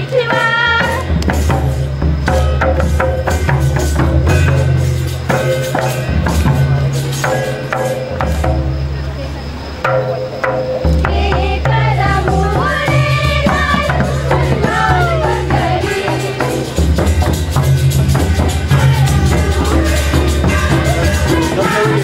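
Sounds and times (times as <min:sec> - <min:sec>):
jingling rattling percussion: 0:00.0 - 0:22.0
voices singing: 0:00.0 - 0:22.0
low drum beat: 0:00.8 - 0:22.0.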